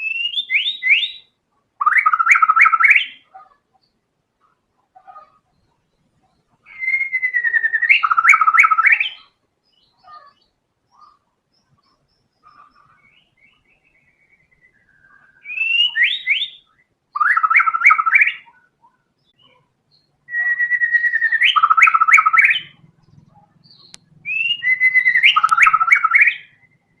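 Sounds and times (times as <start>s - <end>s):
bird singing: 0.0s - 27.0s.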